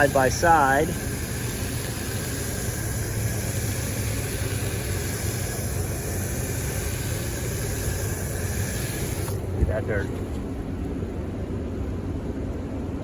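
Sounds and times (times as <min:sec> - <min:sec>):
constant hiss: 0:00.0 - 0:11.1
low mechanical hum: 0:00.0 - 0:13.0.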